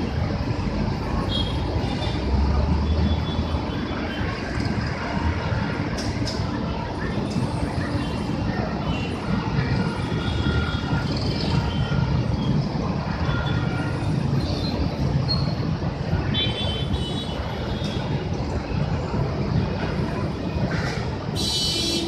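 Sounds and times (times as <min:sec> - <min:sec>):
bus engine rumble: 0:00.0 - 0:22.0.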